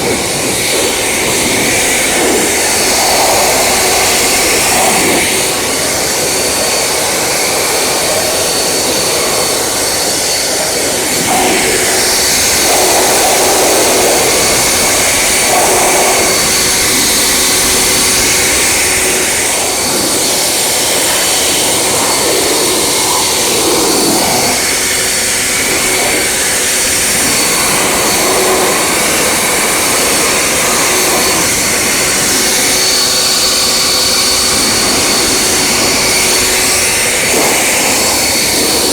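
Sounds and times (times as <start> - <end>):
car wash equipment rushing: 0.0 - 38.9
faint motor whine: 0.0 - 38.9.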